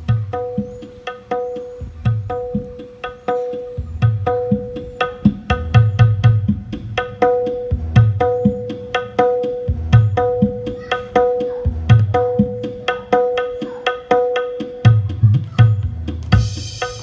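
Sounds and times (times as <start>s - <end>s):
pitched drum ringing: 0.0s - 17.0s.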